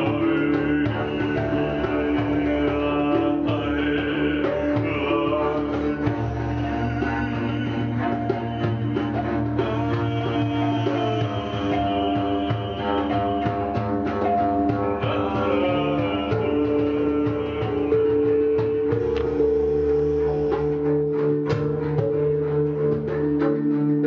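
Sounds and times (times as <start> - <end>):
person singing: 0.0 - 21.4
hand drum strokes: 0.0 - 24.0
low drone: 0.0 - 24.0
plucked double bass: 0.0 - 24.0.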